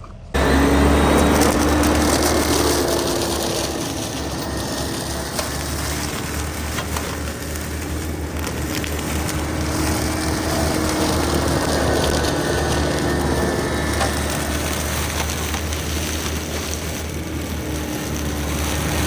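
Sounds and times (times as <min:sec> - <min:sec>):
excavator diesel engine running: 0:00.0 - 0:19.0
mulcher shredding grass: 0:00.0 - 0:19.0.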